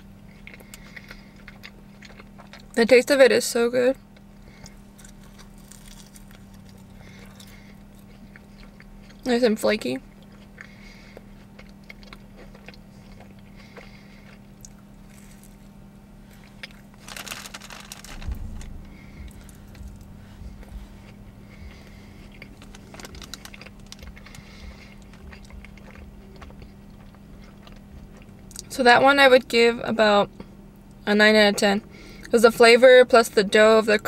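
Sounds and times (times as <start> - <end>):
chewing pastry with crunches: 0.0 - 3.2, 3.9 - 28.8.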